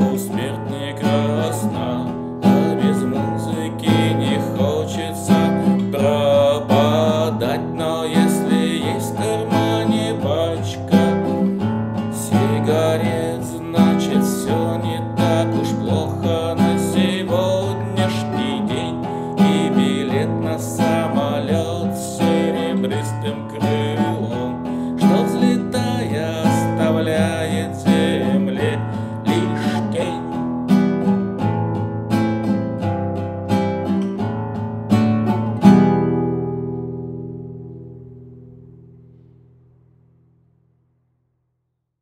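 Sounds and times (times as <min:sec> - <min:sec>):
classical guitar strummed and picked: 0:00.0 - 0:41.0.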